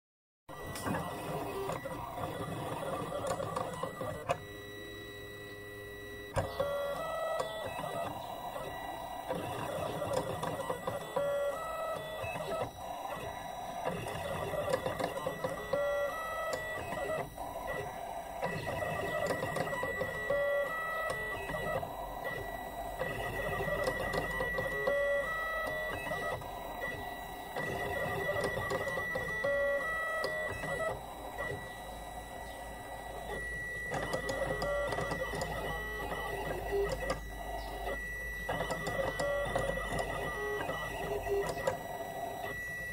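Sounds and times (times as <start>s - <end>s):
cutting plotter motors whirring: 0.5s - 42.9s.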